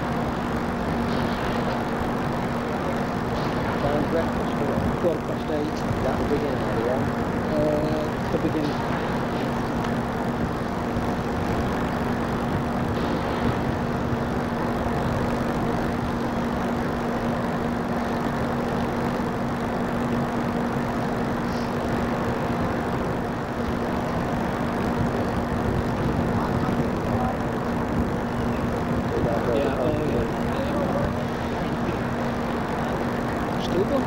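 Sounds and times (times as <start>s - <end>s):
wind noise: 0.0s - 33.6s
constant low machinery hum: 0.0s - 34.0s.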